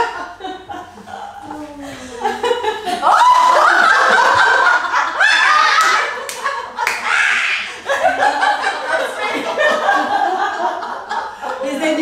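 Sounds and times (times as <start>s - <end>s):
women laughing loudly: 0.0s - 11.7s.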